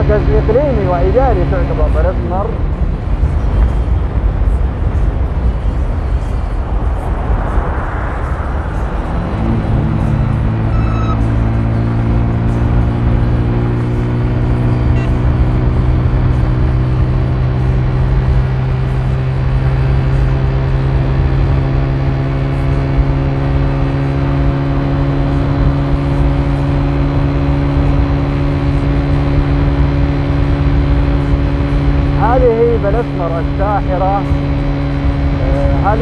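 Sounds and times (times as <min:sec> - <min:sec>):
car engine running: 0:00.0 - 0:36.0
road and tyre rumble: 0:00.0 - 0:36.0.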